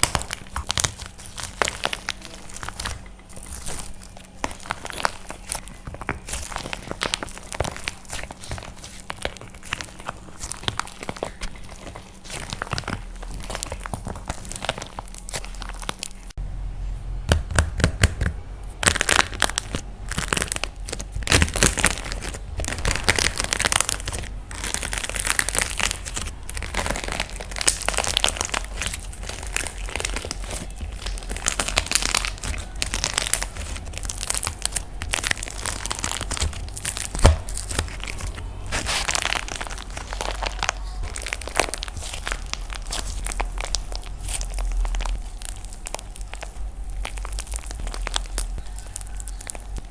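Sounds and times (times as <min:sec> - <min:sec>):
dried clay crunching by hand: 0:00.0 - 0:49.9.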